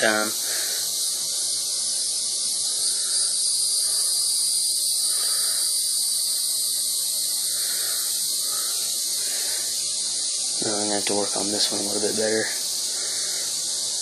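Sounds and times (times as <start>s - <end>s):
steady high-pitched hiss: 0.0s - 14.0s.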